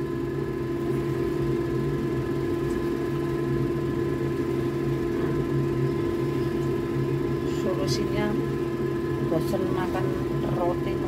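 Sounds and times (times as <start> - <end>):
appliance motor hum: 0.0 - 11.0.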